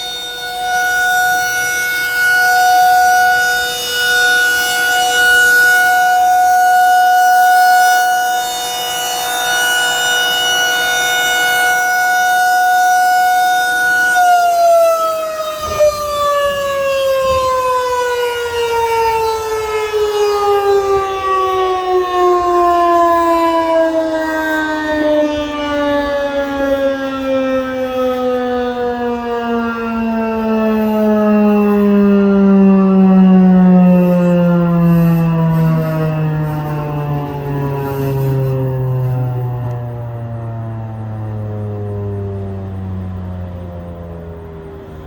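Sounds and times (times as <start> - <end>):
siren winding down: 0.0 - 45.0
warning siren steady tone: 0.0 - 45.0.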